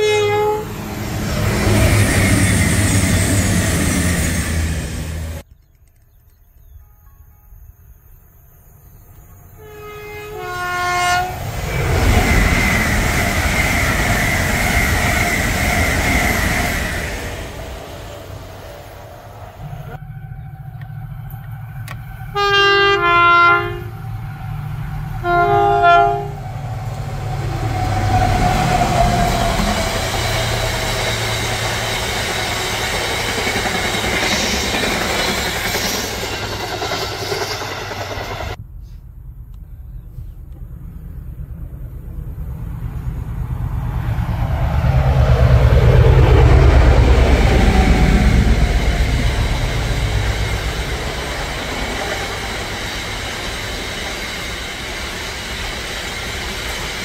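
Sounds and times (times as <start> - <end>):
train passing at speed: 0.0 - 5.5, 7.0 - 57.0.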